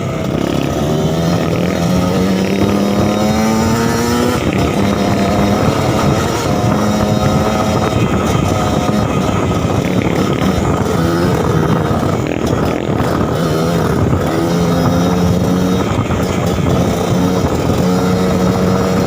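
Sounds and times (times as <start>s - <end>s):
two-stroke motorcycle engine revving: 0.0s - 19.0s.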